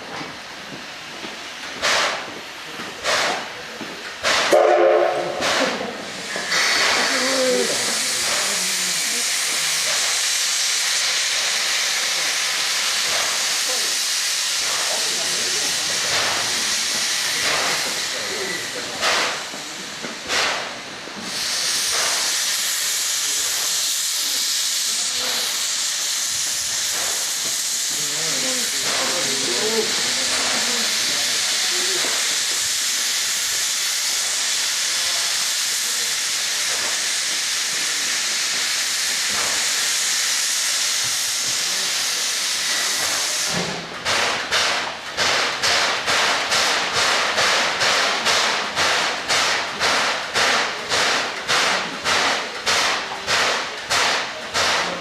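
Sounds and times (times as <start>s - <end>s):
loud hiss of steam: 0.0s - 55.0s
steam locomotive exhaust chuffs: 0.6s - 55.0s.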